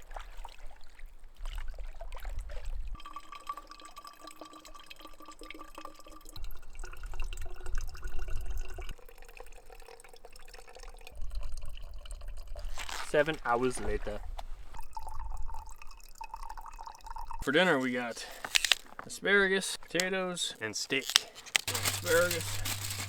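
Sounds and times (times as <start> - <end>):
water trickling into a container: 0.0 - 19.0, 21.0 - 23.0.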